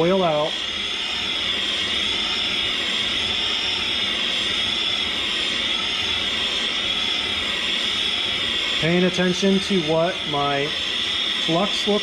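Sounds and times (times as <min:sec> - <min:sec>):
soldering torch hissing: 0:00.0 - 0:12.0.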